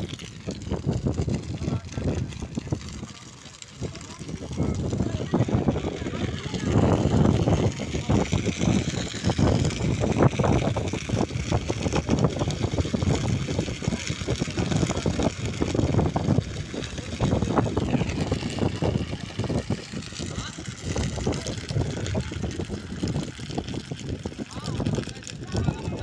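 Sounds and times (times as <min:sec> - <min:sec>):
fire rumbling and crackling: 0:00.0 - 0:26.0.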